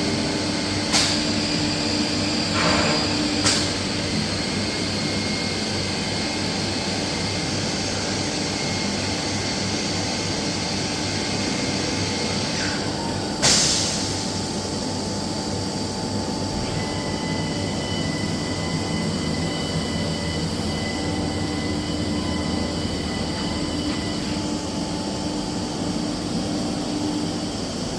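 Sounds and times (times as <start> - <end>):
machining centre running: 0.0 - 27.9
steady high whine: 0.0 - 27.9.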